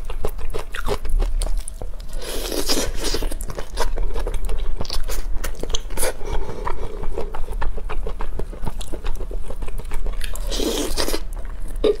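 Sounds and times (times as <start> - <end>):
person chewing chicken wings: 0.1 - 12.0.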